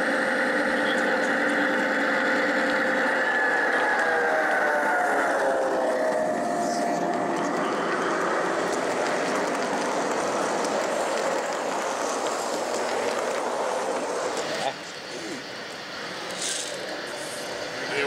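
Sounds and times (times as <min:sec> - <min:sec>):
falling whine: 0:00.0 - 0:18.0
model train wheels rolling on track: 0:00.0 - 0:18.0.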